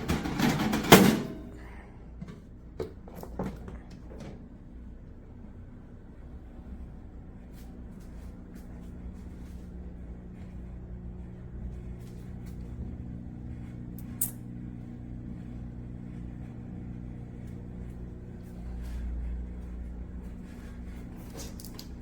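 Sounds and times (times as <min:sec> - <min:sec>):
air fryer fan humming: 0:00.0 - 0:22.0.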